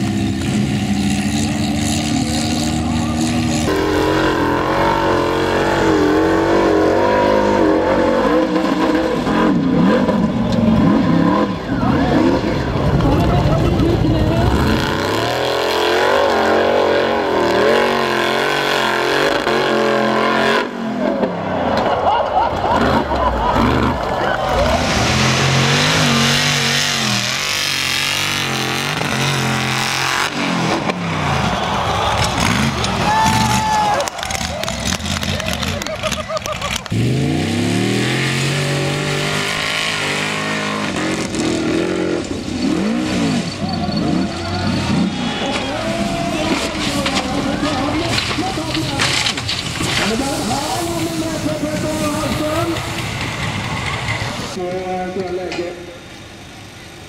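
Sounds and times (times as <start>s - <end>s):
buggy engine revving hard: 0.0s - 54.6s.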